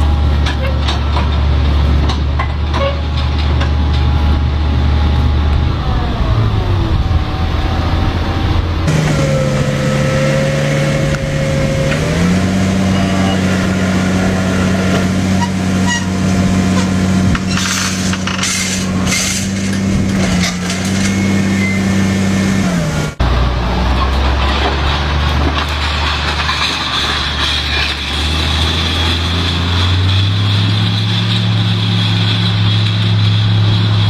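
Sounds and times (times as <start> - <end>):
deep engine drone: 0.0 - 34.0
tractor engine running: 0.0 - 34.0.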